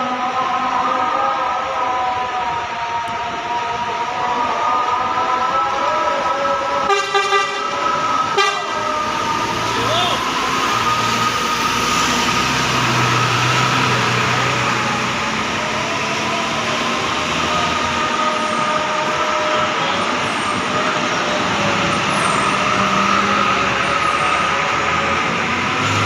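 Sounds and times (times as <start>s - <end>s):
bus diesel engines passing: 0.0s - 26.0s.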